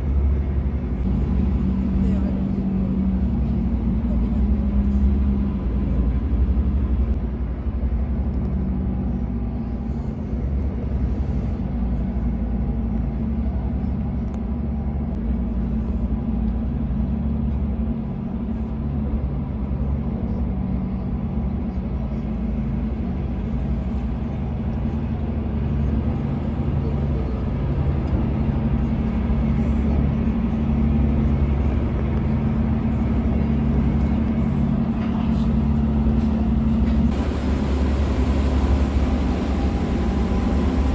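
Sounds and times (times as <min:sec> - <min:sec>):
ferry engines droning: 0:00.0 - 0:40.9.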